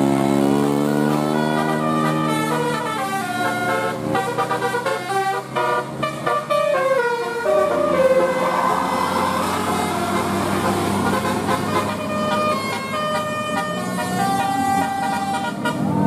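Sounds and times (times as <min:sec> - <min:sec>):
multi-tone air horn tune: 0:01.0 - 0:16.0.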